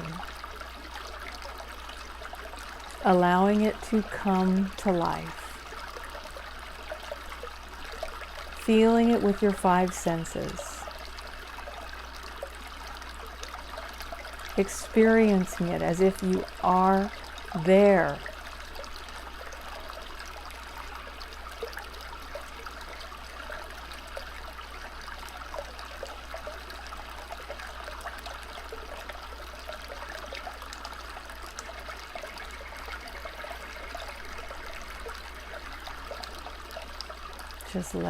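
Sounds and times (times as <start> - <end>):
stream babbling: 0.0 - 38.0.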